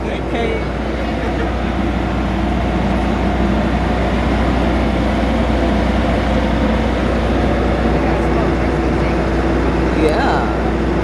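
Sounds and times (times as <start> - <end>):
low droning rumble: 0.0 - 11.0.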